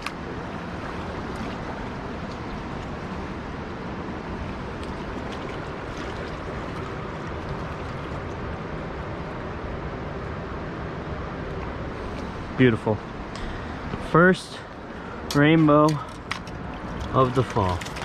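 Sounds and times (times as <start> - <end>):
water rushing from spillway: 0.0 - 15.2.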